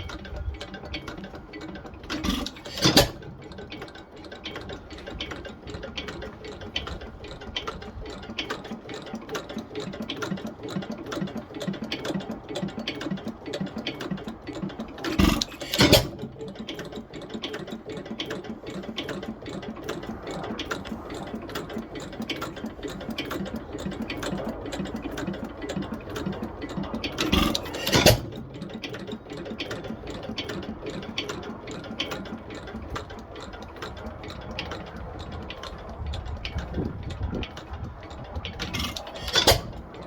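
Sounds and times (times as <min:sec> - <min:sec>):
stationary engine clattering: 0:00.0 - 0:40.0.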